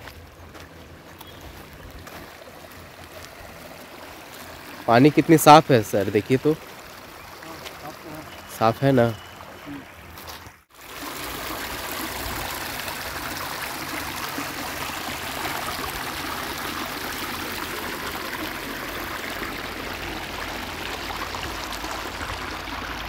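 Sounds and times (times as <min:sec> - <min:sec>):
river water rushing over sandbags: 0:00.0 - 0:23.0.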